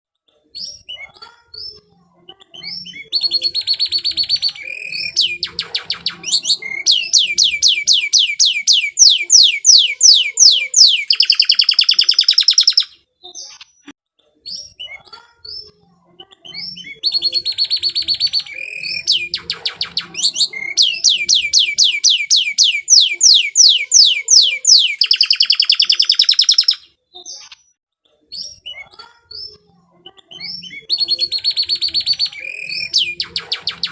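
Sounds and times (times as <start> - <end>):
canary singing trills: 2.4 - 13.8, 16.3 - 27.6, 28.4 - 33.9.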